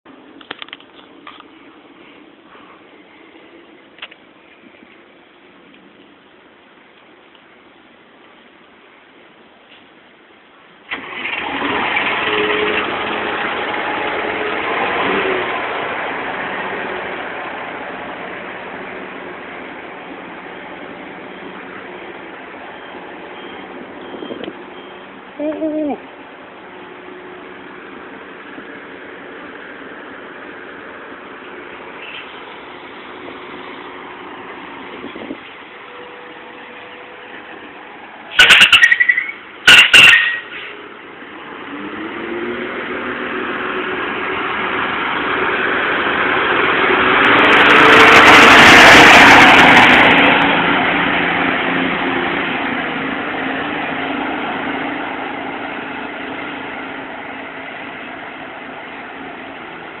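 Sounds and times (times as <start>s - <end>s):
bus engine passing: 0.1s - 60.0s.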